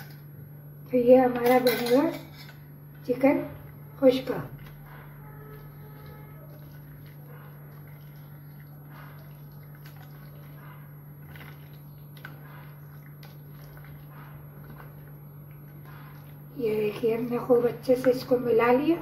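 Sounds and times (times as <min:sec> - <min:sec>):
steady low hum: 0:00.0 - 0:19.0
wet squishing of hand kneading: 0:03.0 - 0:19.0.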